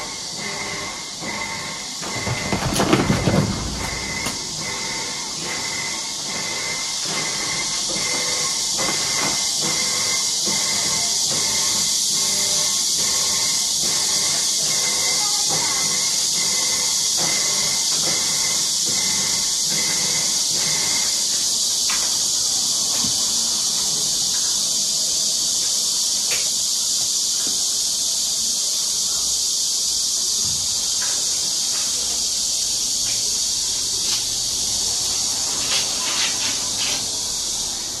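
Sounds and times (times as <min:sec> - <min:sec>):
high-pitched hiss: 0:03.5 - 0:38.0.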